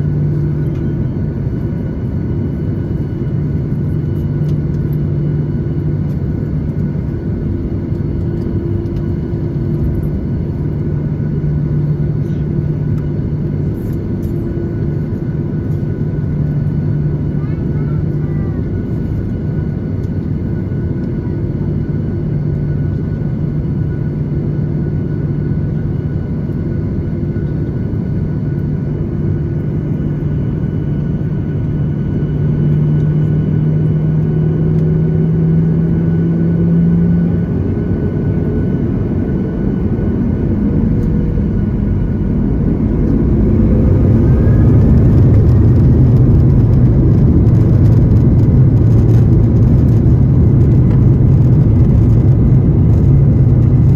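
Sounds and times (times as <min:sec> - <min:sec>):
jet engines humming and rumbling: 0:00.0 - 0:53.9.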